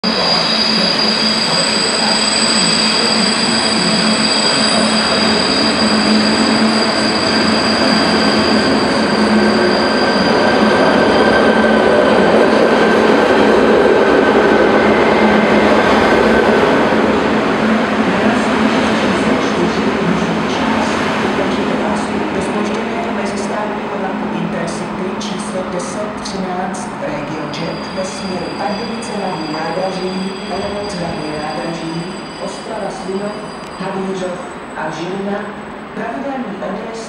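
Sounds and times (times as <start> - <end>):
high-pitched squeal: 0.0 - 35.0
electric train running past: 0.0 - 36.0.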